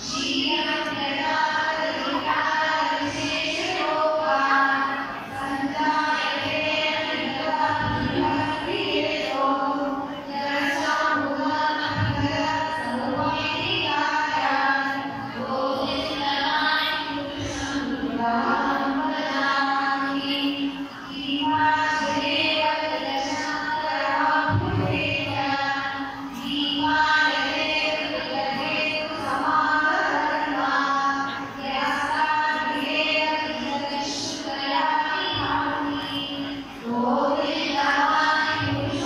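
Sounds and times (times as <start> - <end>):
devotional chanting with music: 0.0 - 39.0.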